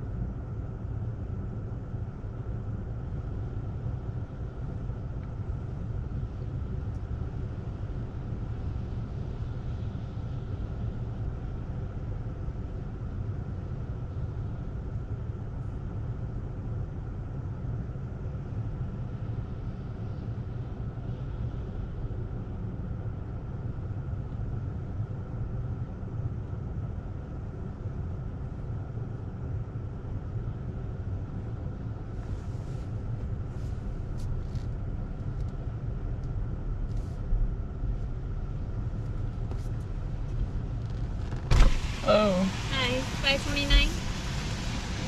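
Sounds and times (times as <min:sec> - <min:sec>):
car engine low rumble: 0:00.0 - 0:45.0.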